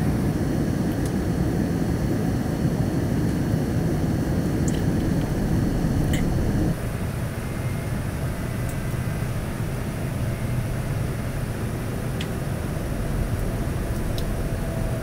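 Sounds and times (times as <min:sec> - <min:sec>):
airliner cabin rumble: 0:01.2 - 0:15.0.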